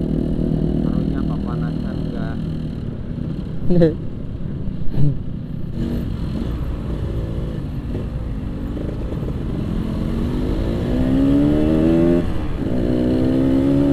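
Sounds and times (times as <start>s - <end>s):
low wind rumble: 0.0s - 13.9s.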